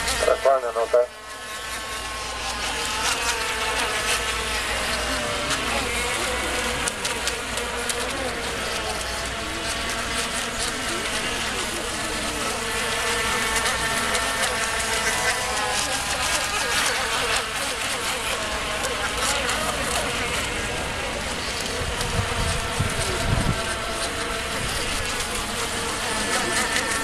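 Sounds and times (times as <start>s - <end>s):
model boat motors whining: 0.0s - 27.0s.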